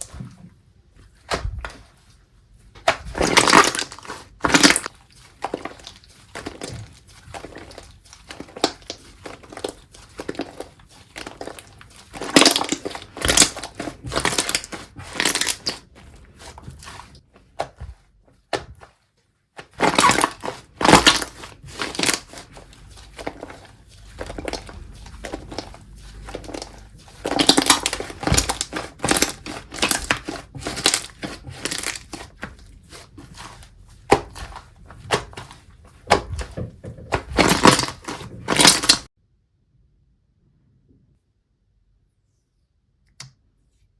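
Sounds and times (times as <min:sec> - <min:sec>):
slime squished by hand: 0:02.8 - 0:19.0, 0:19.6 - 0:39.1.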